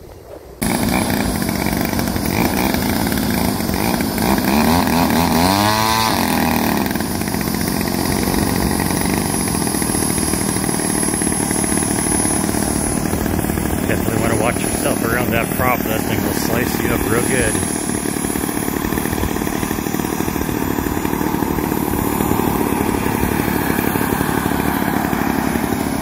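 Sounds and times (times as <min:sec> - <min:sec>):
model airplane propeller engine: 0:00.1 - 0:26.0.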